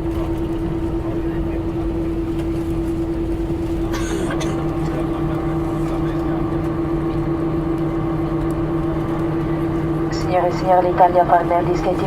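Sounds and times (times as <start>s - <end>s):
airplane cabin hum: 0.0s - 12.0s
steady tones: 1.8s - 12.0s.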